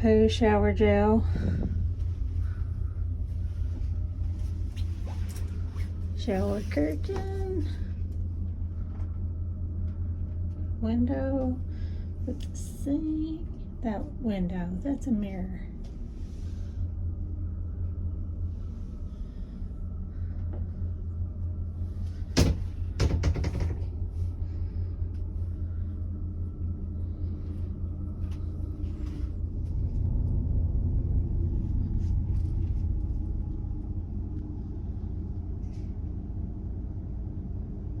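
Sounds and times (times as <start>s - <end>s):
ship machinery rumble: 0.0s - 38.0s.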